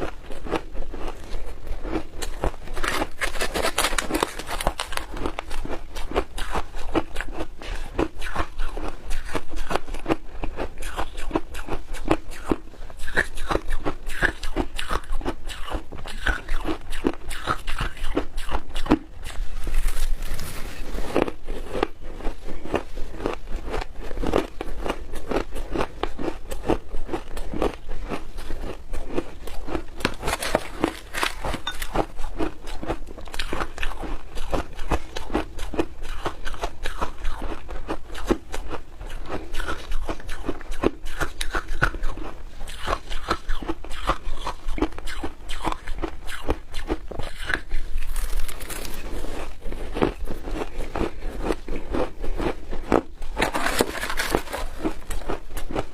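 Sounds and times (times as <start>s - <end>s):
crunching and chewing ice: 0.0s - 55.9s.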